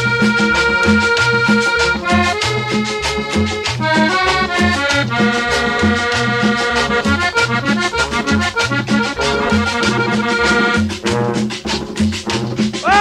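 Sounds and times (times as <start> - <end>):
cumbia music with accordion: 0.0 - 13.0.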